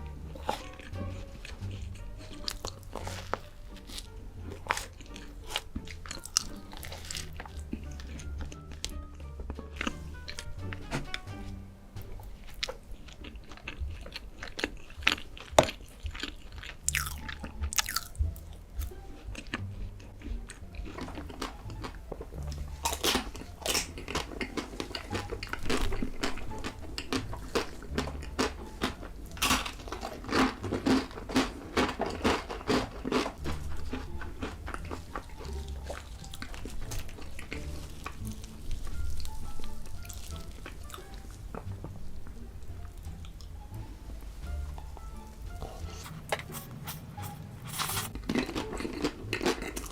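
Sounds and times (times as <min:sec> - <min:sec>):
person chewing crunchy chocolate: 0:00.0 - 0:10.8, 0:12.1 - 0:42.0, 0:44.5 - 0:49.9.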